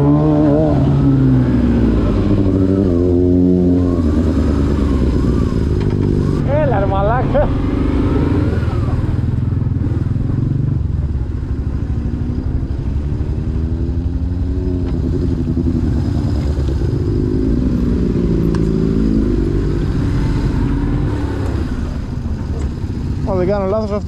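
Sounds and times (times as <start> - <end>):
motorcycles riding up: 0.0 - 24.0.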